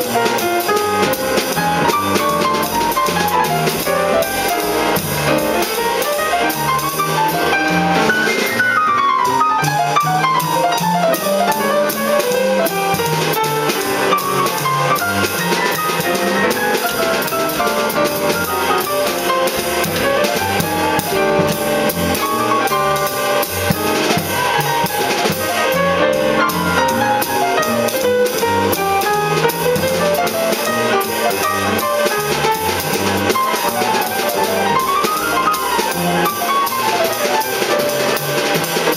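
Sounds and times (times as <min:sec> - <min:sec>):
double bass line: 0:00.0 - 0:38.9
drum kit cymbals: 0:00.0 - 0:38.9
piano: 0:00.0 - 0:38.9.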